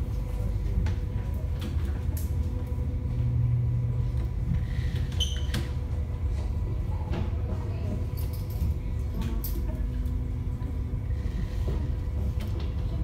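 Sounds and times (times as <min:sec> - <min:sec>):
faint engine hum: 0:00.0 - 0:13.0.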